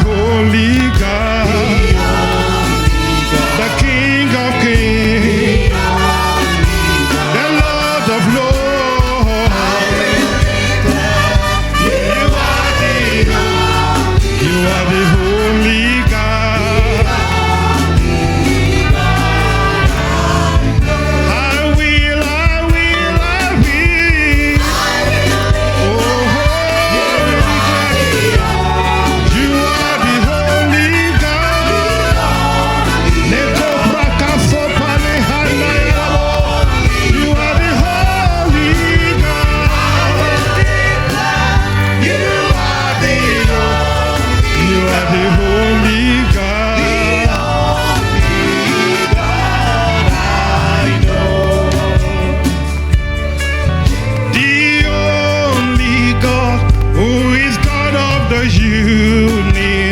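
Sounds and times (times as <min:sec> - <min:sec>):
band with bass and drums: 0:00.0 - 0:59.9
singers holding long notes: 0:00.0 - 0:59.9.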